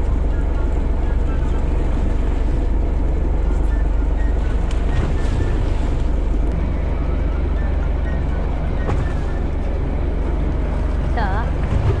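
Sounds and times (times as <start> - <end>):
boat engine idling: 0.0 - 12.0
sea noise: 0.0 - 12.0.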